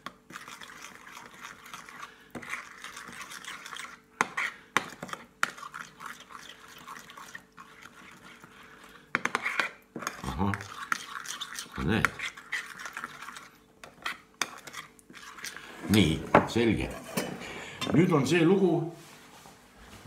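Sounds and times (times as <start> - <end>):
metal spoon stirring thick paste: 0.0 - 18.0.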